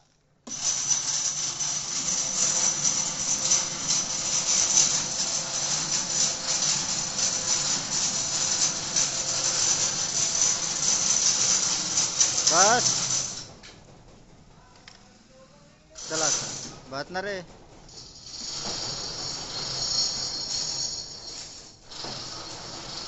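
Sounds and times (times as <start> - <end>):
electric chain hoist running: 0.5 - 13.6, 16.0 - 23.0.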